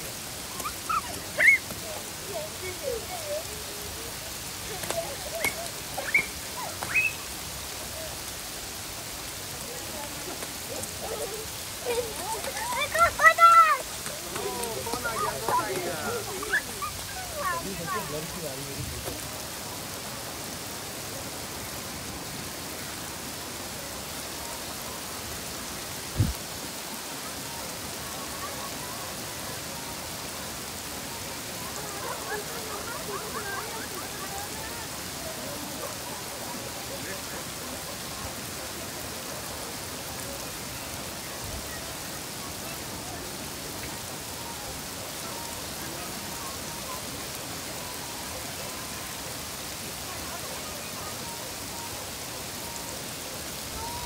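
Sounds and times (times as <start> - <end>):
faint voices: 0.0 - 54.0
rain falling: 0.0 - 54.0
rushing water hiss: 0.0 - 54.0.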